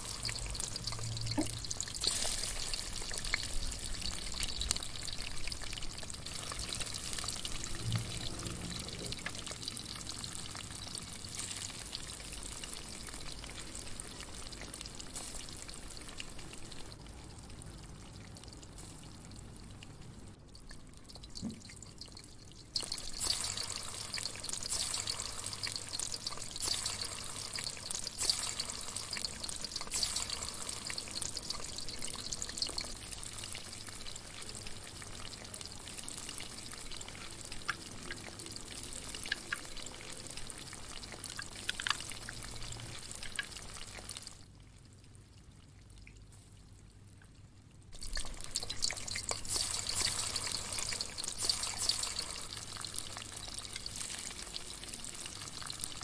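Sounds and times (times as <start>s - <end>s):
steady watery hiss: 0.0s - 17.1s, 18.3s - 44.3s, 48.0s - 56.0s.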